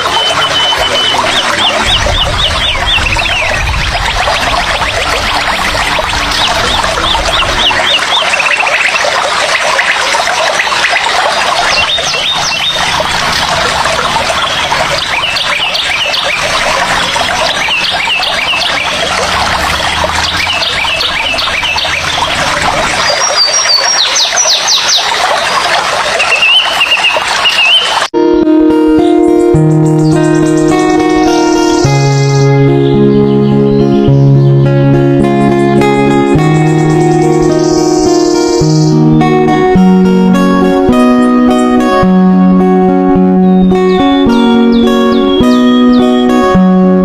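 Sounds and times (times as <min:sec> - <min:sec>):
chorus of birds calling: 0:00.0 - 0:28.1, 0:29.2 - 0:47.0.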